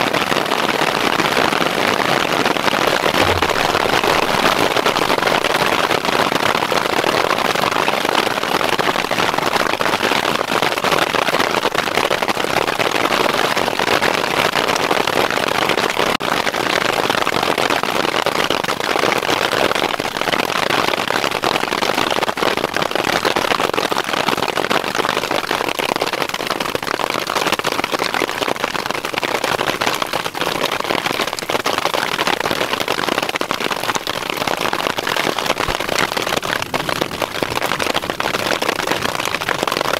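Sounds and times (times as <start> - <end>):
hail and rain on a tarp: 0.0 - 39.9.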